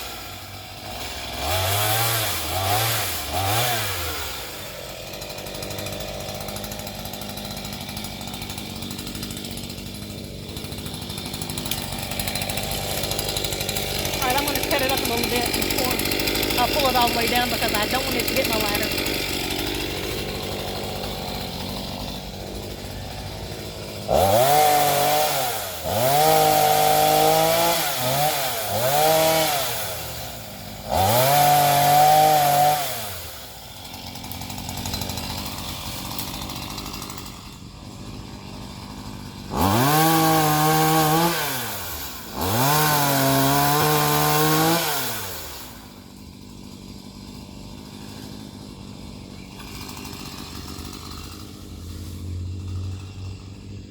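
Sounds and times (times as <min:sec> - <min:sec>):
chainsaw idling and revving: 0:00.0 - 0:53.9.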